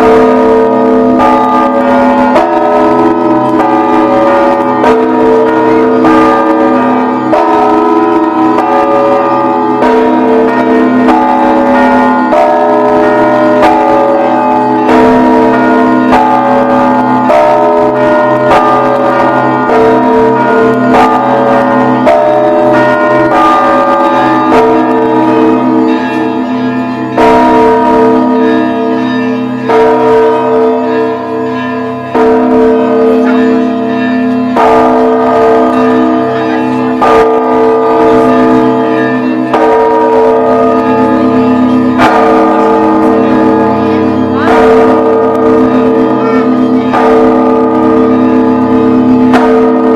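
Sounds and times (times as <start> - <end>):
church bells ringing: 0.0 - 49.9
deep bell striking: 0.0 - 49.9.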